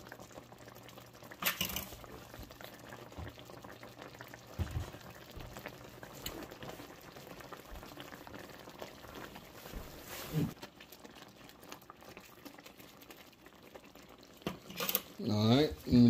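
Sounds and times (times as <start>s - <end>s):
gravy bubbling in a pan: 0.0s - 16.0s.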